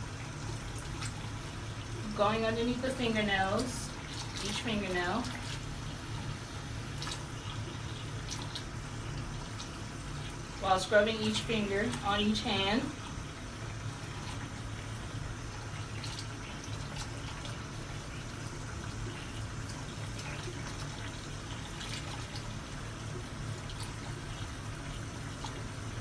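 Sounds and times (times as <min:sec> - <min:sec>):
faucet running into sink: 0:00.0 - 0:26.0.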